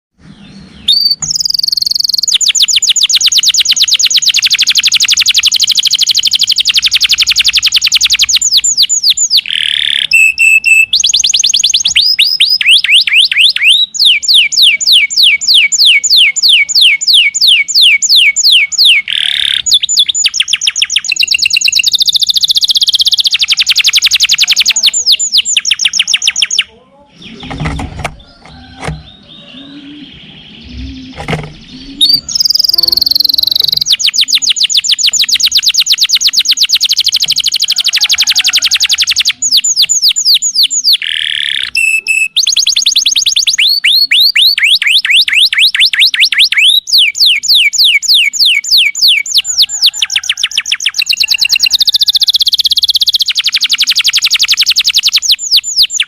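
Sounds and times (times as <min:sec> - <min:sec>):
canary singing trills: 0:00.2 - 0:56.0.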